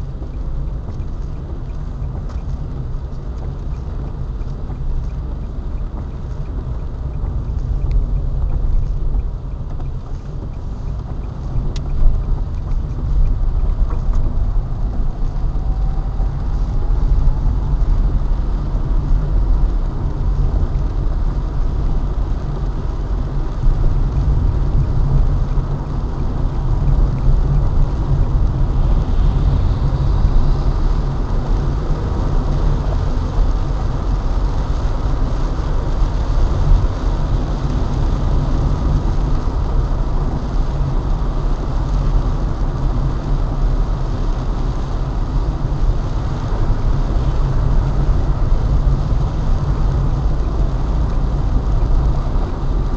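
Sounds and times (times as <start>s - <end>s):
road and engine rumble: 0.0s - 52.9s.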